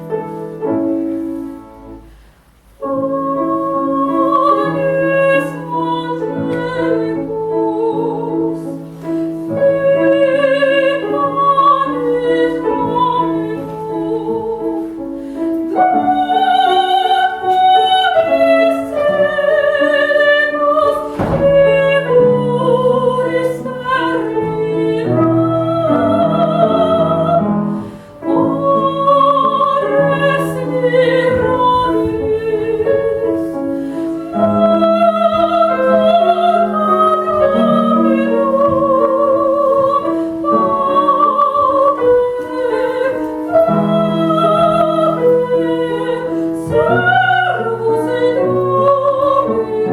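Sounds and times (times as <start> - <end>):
grand piano: 0.0 - 49.9
woman singing with vibrato: 2.8 - 15.0, 15.6 - 49.9.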